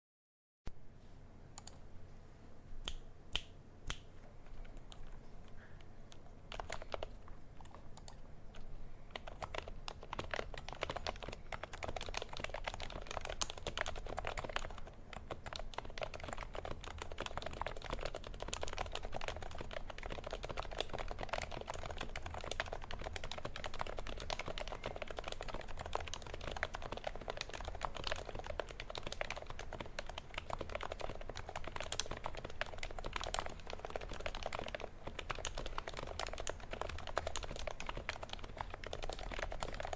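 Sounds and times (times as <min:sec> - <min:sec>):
rapid keyboard typing: 0:04.3 - 0:39.9.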